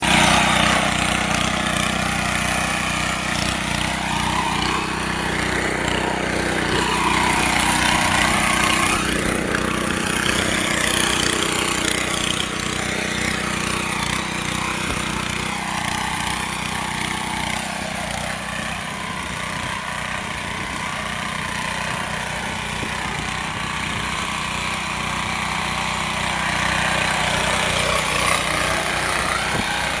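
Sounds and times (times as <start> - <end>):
small tractor engine running: 0.0 - 30.0.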